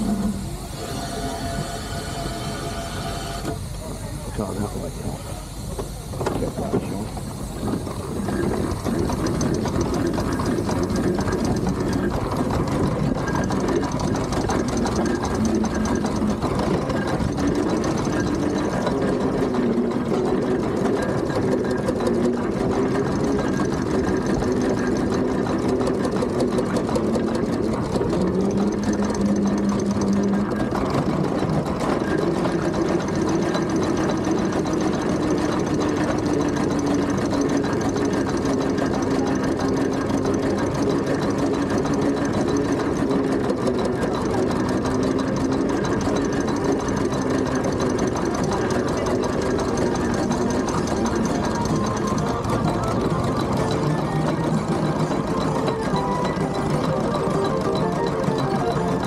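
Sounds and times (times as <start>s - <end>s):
engine hum: 0.0s - 59.0s
steam engine mechanical clatter: 0.0s - 59.0s.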